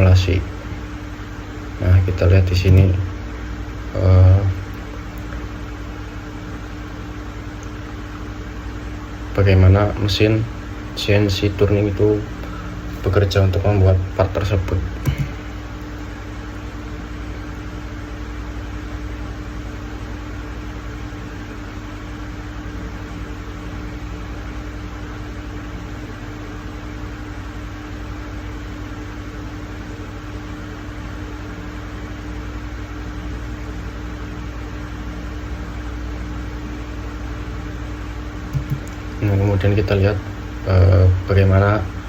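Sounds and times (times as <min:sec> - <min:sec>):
steady mechanical hum with hiss: 0:00.0 - 0:42.0.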